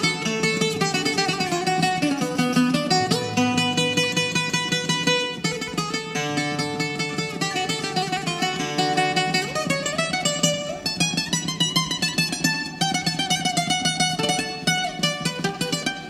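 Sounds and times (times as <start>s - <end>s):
bouzouki melody: 0.0s - 16.0s
plucked string accompaniment: 0.0s - 16.0s.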